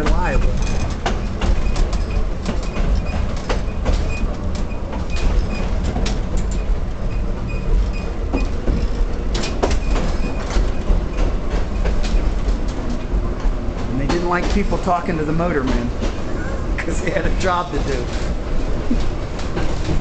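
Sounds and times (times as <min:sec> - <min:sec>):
knocks and rattles: 0:00.0 - 0:20.0
streetcar rumbling on track: 0:00.0 - 0:20.0.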